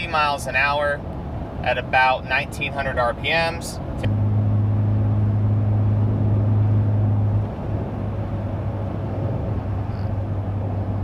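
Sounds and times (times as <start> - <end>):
engine low hum: 0.0 - 11.0
road and wind noise: 0.0 - 11.0.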